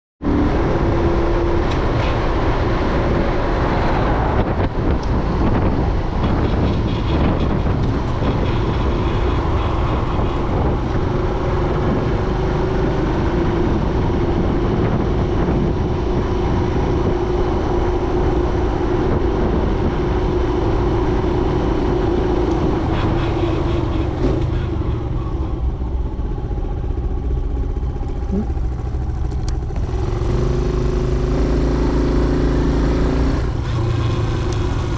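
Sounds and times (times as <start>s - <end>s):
wind noise: 0.2s - 34.9s
motorcycle engine running: 4.7s - 34.9s.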